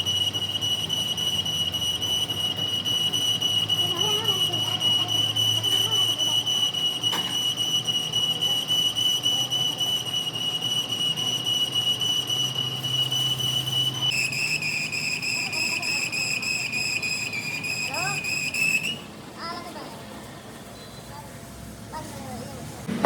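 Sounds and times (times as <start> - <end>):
high-pitched whistling tone: 0.0 - 19.1.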